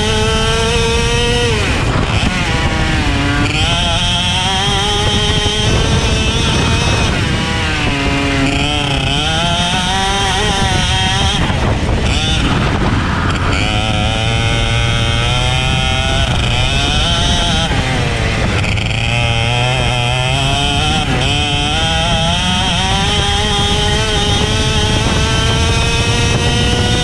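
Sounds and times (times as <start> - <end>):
racing kart engine: 0.0 - 27.0.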